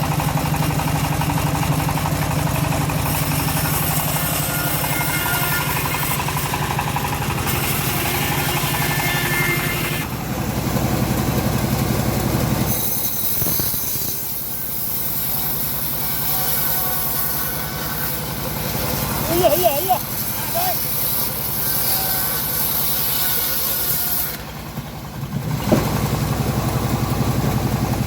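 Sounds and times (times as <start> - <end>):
sawmill engine running: 0.0 - 28.0.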